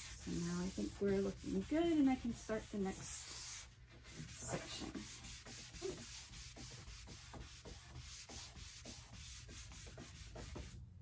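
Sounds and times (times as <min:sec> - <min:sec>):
wiping wooden tabletop: 0:00.0 - 0:10.8.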